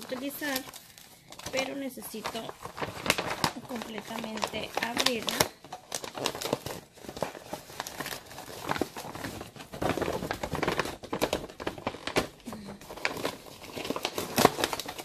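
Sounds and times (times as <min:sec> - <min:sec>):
paper bag crinkling: 0:00.0 - 0:15.0.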